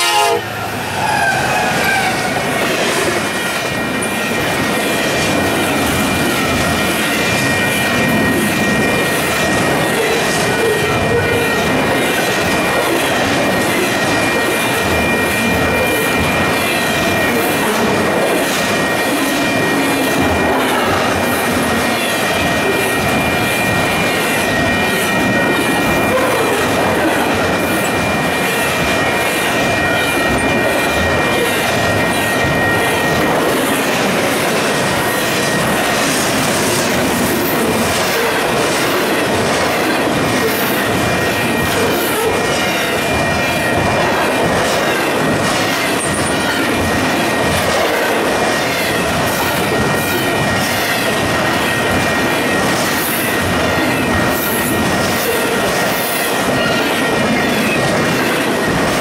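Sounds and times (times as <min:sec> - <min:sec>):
train wheels rushing on rail: 0:00.0 - 0:59.0.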